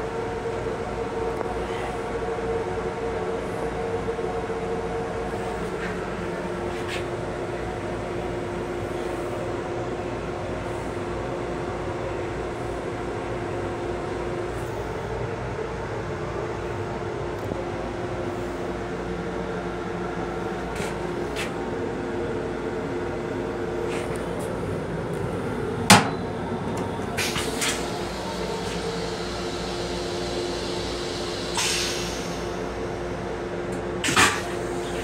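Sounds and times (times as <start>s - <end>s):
railcar hum: 0.0s - 35.0s.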